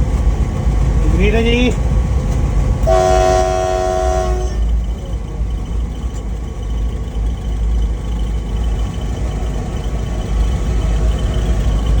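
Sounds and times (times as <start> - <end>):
locomotive low rumble: 0.0 - 12.0.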